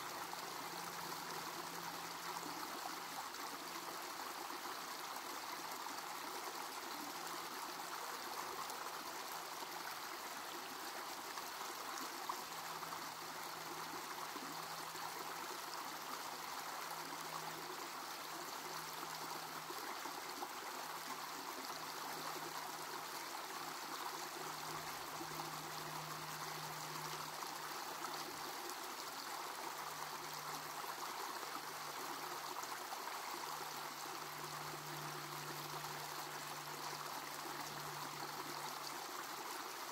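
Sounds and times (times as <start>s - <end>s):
creek trickling over rocks: 0.0s - 39.9s.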